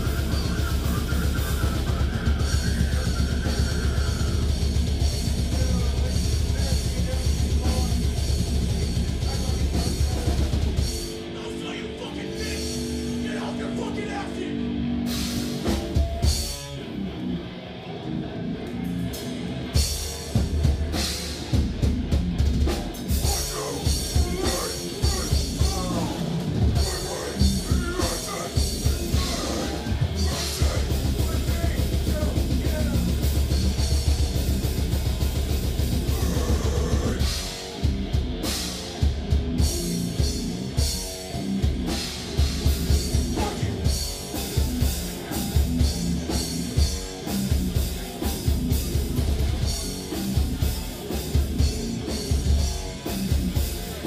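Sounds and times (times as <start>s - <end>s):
drum kit with cymbal crashes: 0.0s - 11.4s, 15.0s - 16.8s, 19.1s - 54.0s
heavy down-tuned guitars: 0.0s - 54.0s.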